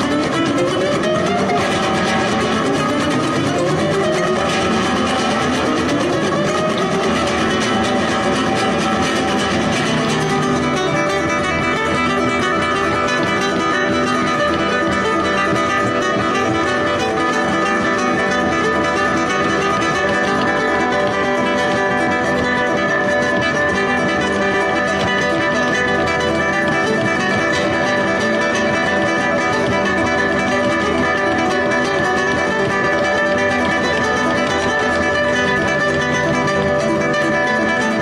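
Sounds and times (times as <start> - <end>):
solo guitar playing: 0.0 - 38.0.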